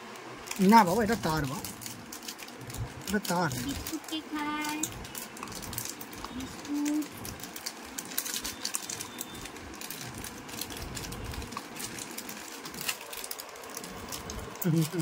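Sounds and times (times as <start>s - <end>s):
plastic snack packet crinkling: 0.1s - 15.0s.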